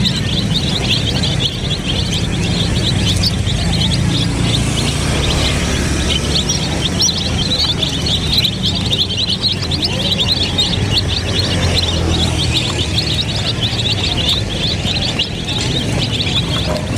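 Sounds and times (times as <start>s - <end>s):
chicks peeping: 0.0s - 16.9s.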